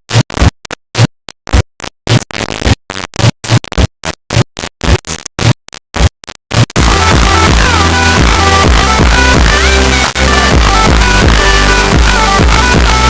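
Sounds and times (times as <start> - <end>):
distorted stuttering noise bursts: 0.1 - 13.0.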